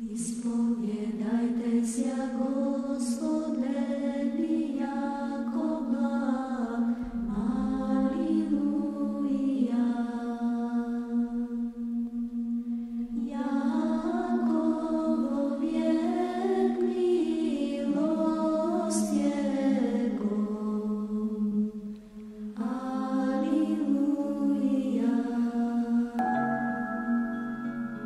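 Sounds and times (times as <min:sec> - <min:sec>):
voices chanting slow melody: 0:00.0 - 0:28.0.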